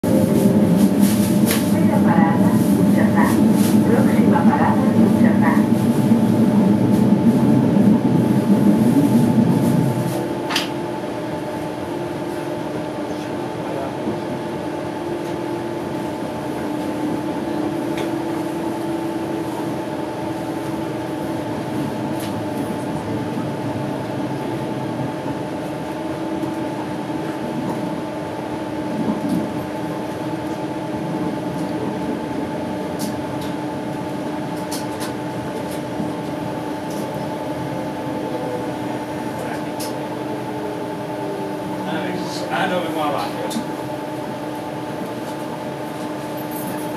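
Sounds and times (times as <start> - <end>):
train carriage hum and rumble: 0.0 - 46.9.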